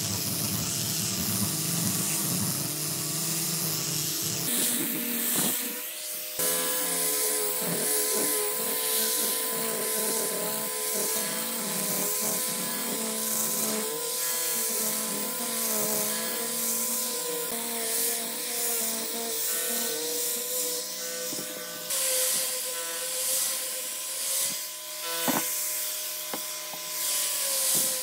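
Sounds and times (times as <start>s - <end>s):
electric sander on wood: 0.0s - 28.0s.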